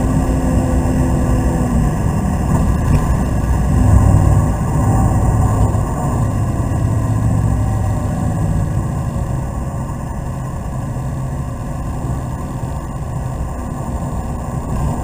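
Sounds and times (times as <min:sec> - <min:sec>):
car engine running under load: 0:00.0 - 0:15.0
tyre and road noise: 0:00.0 - 0:15.0.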